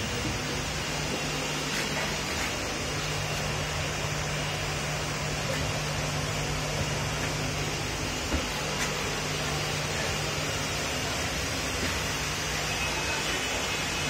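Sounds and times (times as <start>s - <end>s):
train interior hum and hiss: 0.0s - 14.0s.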